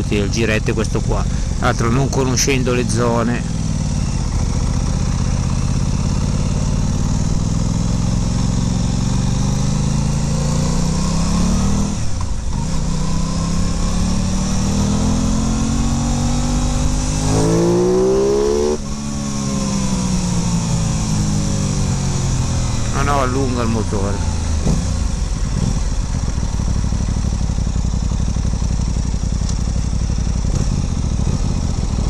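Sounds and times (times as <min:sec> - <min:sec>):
motorcycle engine accelerating: 0:02.8 - 0:32.0.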